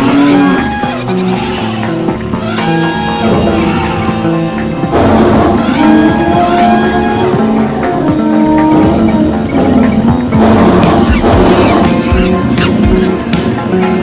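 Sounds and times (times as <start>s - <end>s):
music with held notes and beat: 0.0s - 14.0s.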